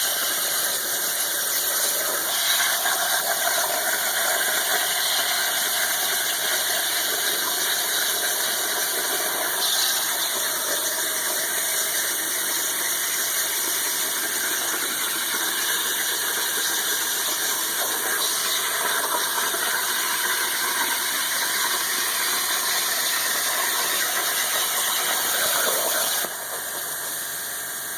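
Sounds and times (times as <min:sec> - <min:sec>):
plasma torch cutting metal: 0:00.0 - 0:27.9.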